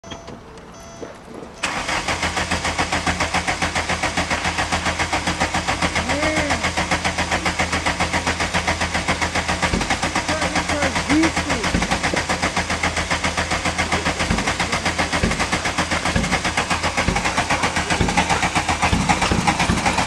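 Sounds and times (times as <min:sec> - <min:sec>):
diesel engine cranking: 0:00.0 - 0:20.0.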